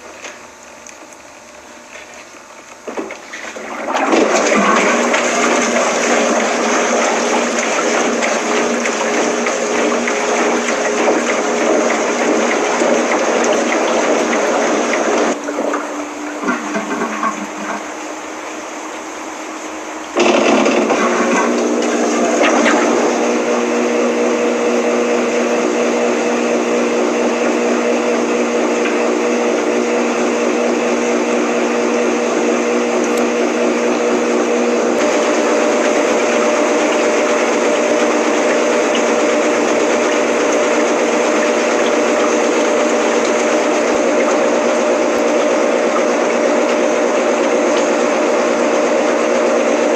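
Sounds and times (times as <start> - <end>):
washing machine motor humming: 0.0 - 49.9
water sounds: 0.0 - 49.9.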